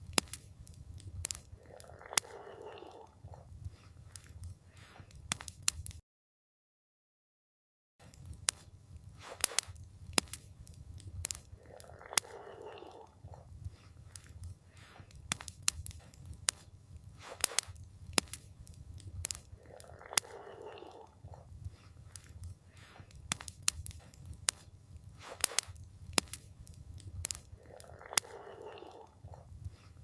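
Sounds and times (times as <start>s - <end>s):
campfire crackling and popping: 0.0s - 6.0s, 8.0s - 30.0s
low rumble of flames: 0.0s - 6.0s, 8.0s - 30.0s.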